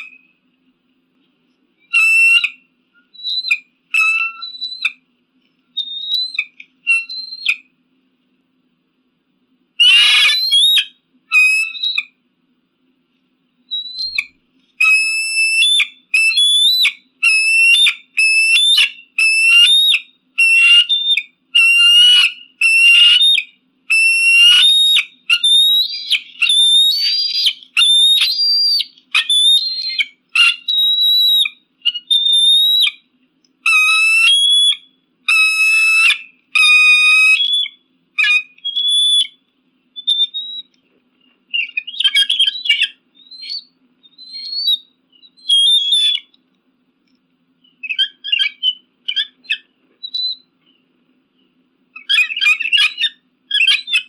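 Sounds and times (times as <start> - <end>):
eagle piping calls: 1.8 - 5.0, 5.8 - 7.7, 9.8 - 12.2, 13.7 - 39.4, 40.0 - 40.8, 41.5 - 46.4, 47.6 - 50.5, 51.9 - 54.0.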